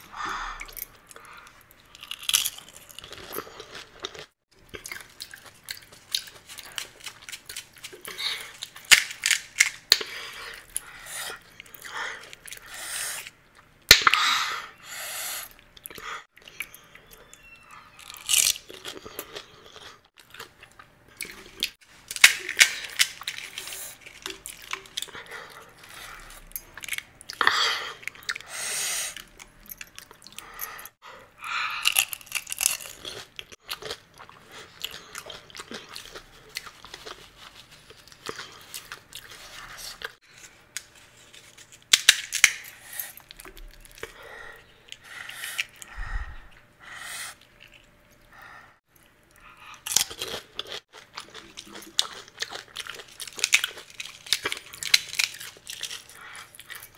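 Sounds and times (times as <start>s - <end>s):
crunching and chewing: 0.6s - 14.1s, 15.6s - 46.7s, 47.3s - 56.9s.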